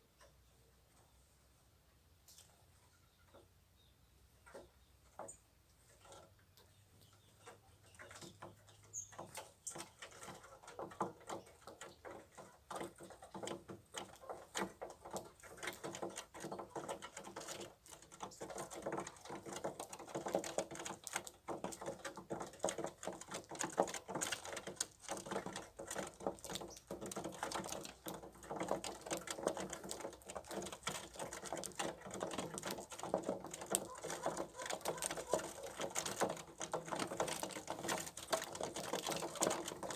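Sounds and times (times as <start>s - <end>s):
birds pecking at feed: 2.2s - 39.9s.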